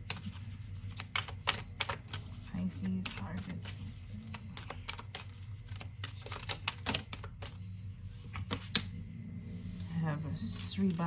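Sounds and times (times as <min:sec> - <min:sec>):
cards being shuffled: 0:00.0 - 0:08.9
steady low hum: 0:00.0 - 0:11.0.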